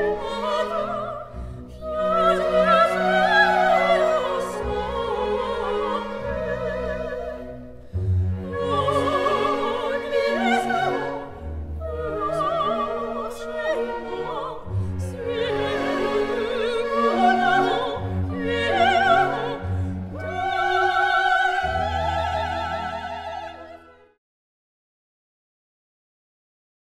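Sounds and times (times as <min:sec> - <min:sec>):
operatic singing voice: 0:00.0 - 0:07.6, 0:08.2 - 0:24.0
orchestral music: 0:00.0 - 0:24.2.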